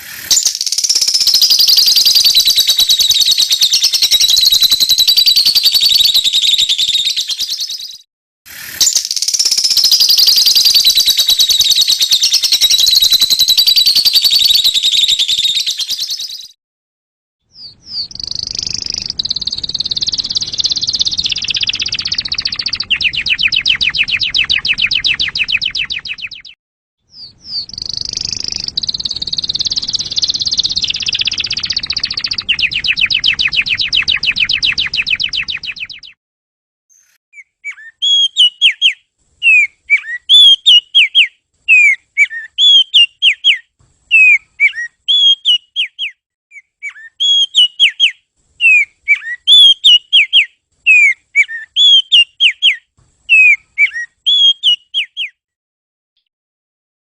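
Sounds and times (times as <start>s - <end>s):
bird chirping whistles: 0.1s - 8.1s, 8.8s - 16.6s, 17.5s - 36.2s, 36.9s - 55.4s
songbird twittering and trilling: 0.2s - 8.0s, 8.7s - 16.6s, 17.5s - 36.2s, 36.9s - 55.4s.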